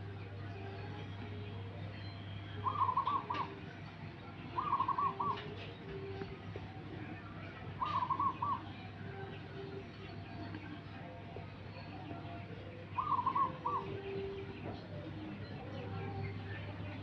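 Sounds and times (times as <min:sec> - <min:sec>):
doves cooing: 0:02.5 - 0:03.7, 0:04.4 - 0:17.0.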